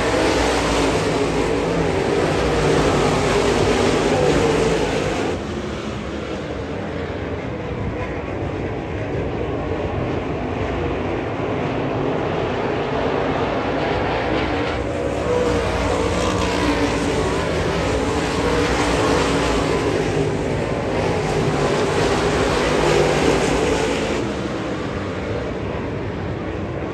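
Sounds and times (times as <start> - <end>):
race car engines: 0.0 - 26.9.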